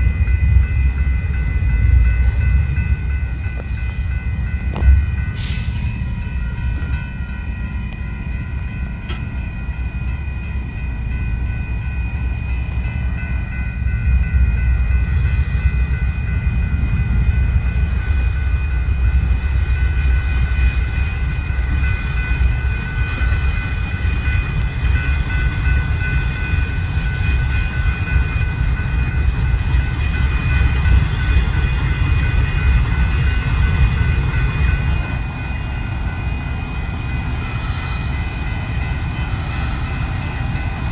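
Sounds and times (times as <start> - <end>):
crossing warning bell ringing: 0.0 - 40.9
locomotive diesel engines rumbling: 0.0 - 40.9.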